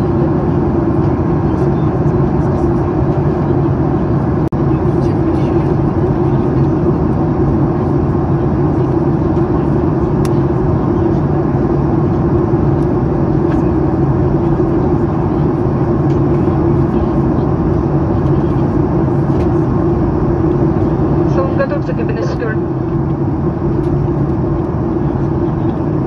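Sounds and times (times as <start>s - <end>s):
airplane cabin noise: 0.0s - 26.0s.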